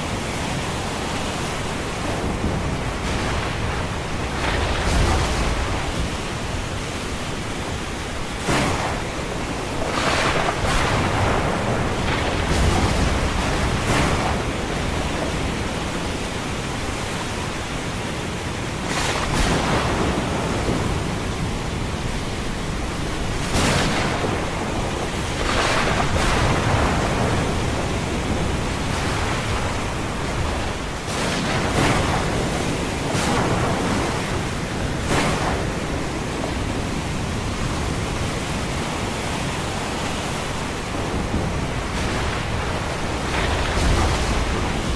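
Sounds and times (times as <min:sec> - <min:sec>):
rain: 0:00.0 - 0:44.9
waves breaking: 0:00.0 - 0:44.9
thunder rumble: 0:01.7 - 0:16.9, 0:18.8 - 0:39.0, 0:40.5 - 0:44.9.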